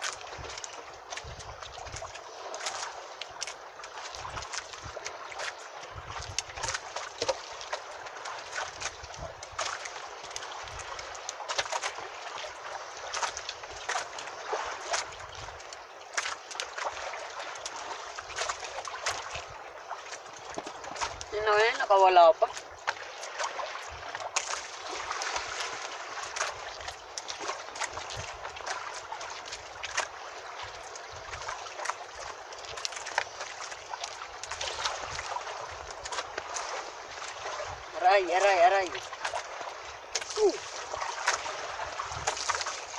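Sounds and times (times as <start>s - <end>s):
splashes and knocks: 0.0s - 42.9s
water lapping against boat hull: 0.0s - 42.9s.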